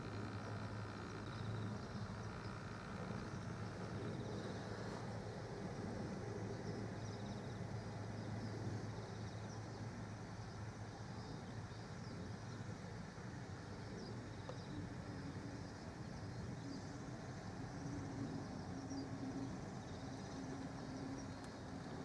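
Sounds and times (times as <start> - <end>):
low outdoor rumble: 0.0 - 22.0
low steady hum: 0.0 - 22.0.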